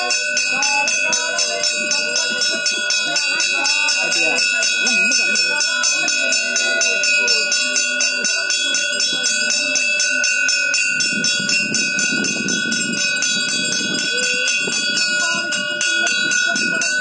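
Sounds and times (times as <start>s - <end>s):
bell rung rapidly: 0.0s - 17.0s
crowd voices murmuring: 0.0s - 17.0s.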